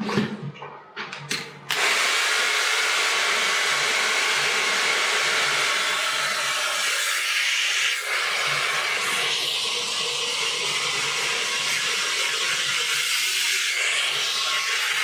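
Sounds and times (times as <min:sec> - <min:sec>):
hair dryer blowing: 0:01.7 - 0:15.0.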